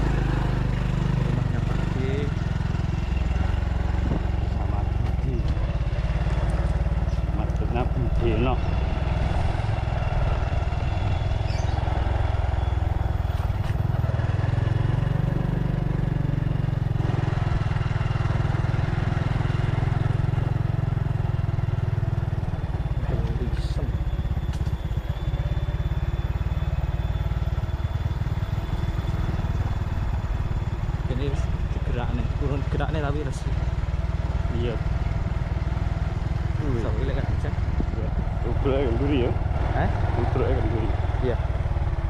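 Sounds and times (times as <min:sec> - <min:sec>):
motorcycle engine rumbling: 0:00.0 - 0:42.0.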